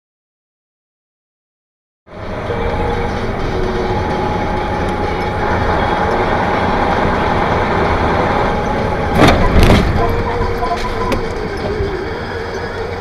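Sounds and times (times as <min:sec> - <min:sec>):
engine and road noise: 0:02.1 - 0:13.0.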